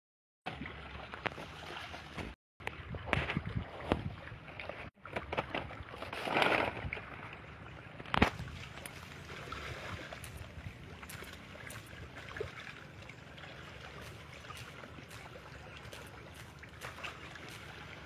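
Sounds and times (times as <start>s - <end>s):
water splashing and sloshing: 0.4s - 18.0s.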